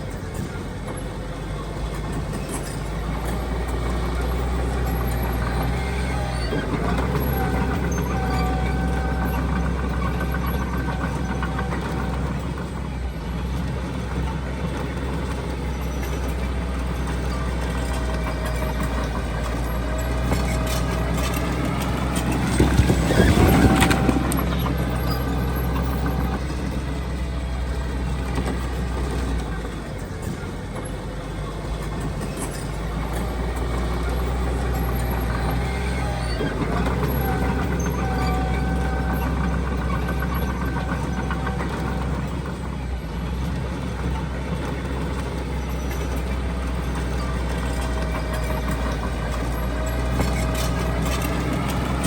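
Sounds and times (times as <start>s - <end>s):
diesel machinery engine drone: 0.0s - 52.0s.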